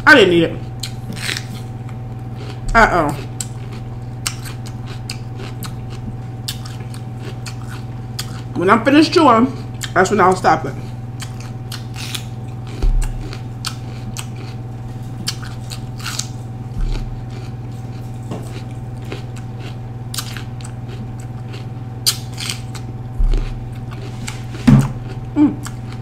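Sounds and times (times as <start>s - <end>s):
crunchy chewing: 0.6s - 8.6s, 9.5s - 10.0s, 10.7s - 26.0s.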